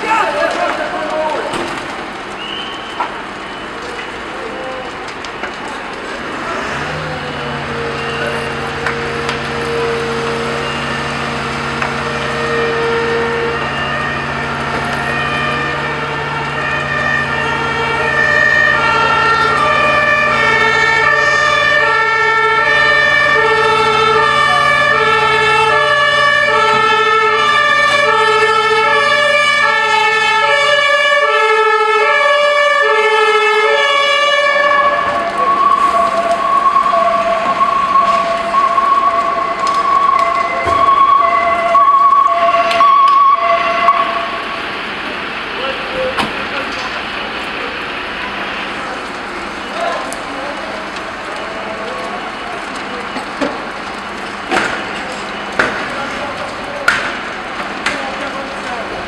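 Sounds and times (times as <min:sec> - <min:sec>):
fire engine two-tone siren: 0:00.0 - 0:05.5, 0:06.2 - 0:59.0.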